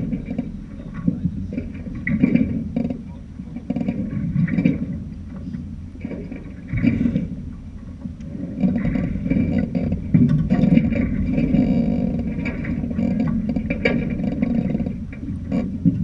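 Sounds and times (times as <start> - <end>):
water rushing past boat: 0.0 - 16.0.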